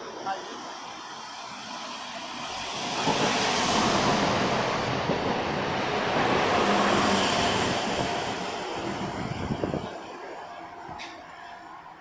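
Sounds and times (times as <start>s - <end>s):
train running past: 0.0s - 12.0s.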